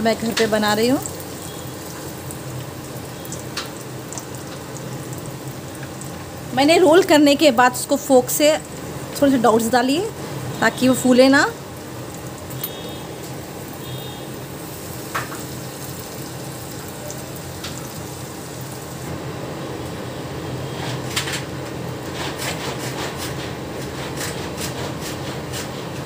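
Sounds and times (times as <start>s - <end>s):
dough sizzling in hot oil: 0.0s - 26.0s.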